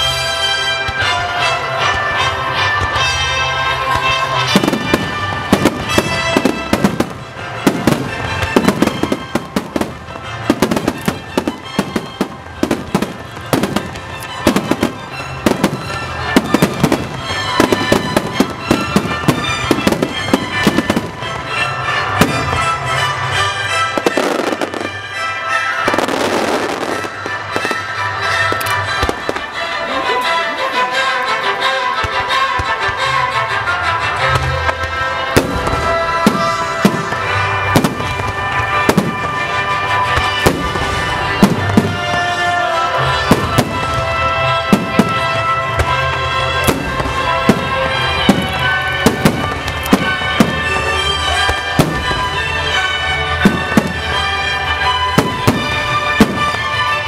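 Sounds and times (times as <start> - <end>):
music: 0.0 - 57.0
fireworks booming: 0.7 - 29.6, 34.3 - 57.0.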